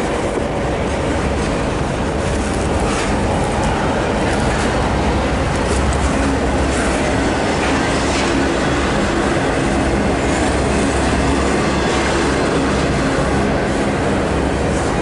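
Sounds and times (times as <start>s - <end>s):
steel wheels clattering on rail: 0.0s - 15.0s.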